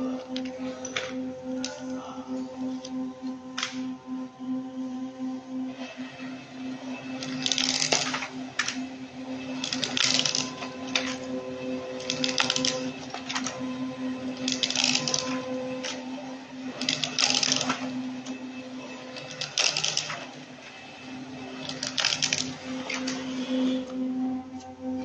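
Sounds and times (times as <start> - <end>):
blade roller cutting strip: 0.0 - 25.0
machine motor hum: 0.0 - 25.0.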